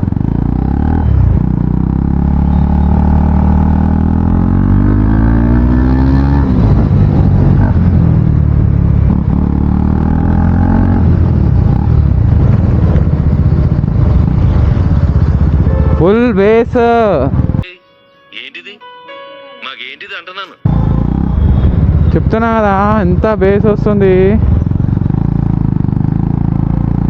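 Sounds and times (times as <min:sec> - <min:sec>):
loud motorcycle engine: 0:00.0 - 0:17.6, 0:20.7 - 0:27.0.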